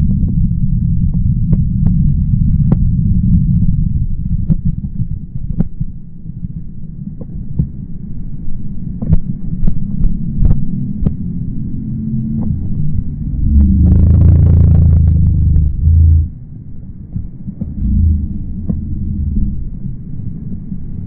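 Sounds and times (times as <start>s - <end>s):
wind buffeting on microphone: 0.0s - 21.0s.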